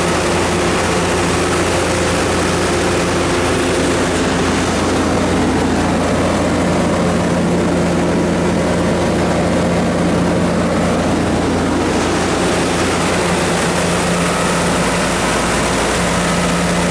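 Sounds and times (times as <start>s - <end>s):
diesel generator engine running: 0.0s - 16.9s.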